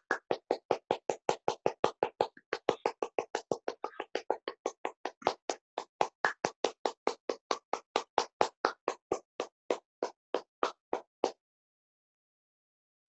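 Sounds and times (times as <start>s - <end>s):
person clapping rapidly: 0.0s - 11.4s.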